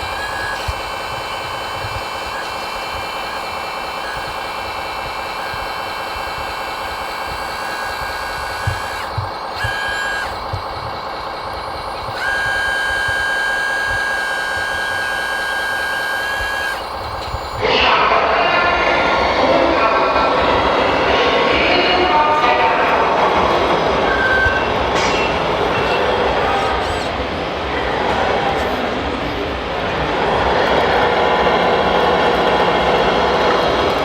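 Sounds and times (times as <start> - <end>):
electric motors high whine: 0.0 - 34.0.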